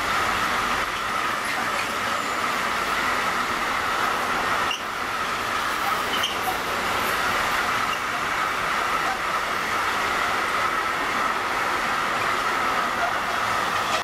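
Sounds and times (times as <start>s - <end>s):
steel wheels rushing on rail: 0.0s - 14.0s.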